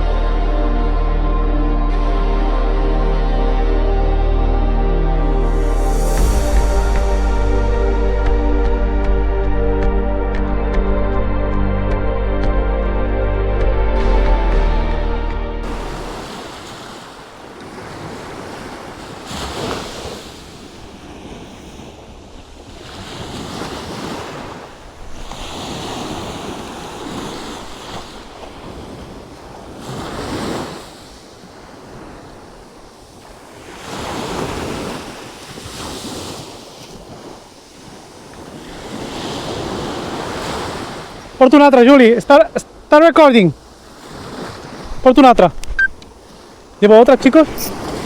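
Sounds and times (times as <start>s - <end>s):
sea waves washing ashore: 0.0s - 10.5s, 15.4s - 48.0s.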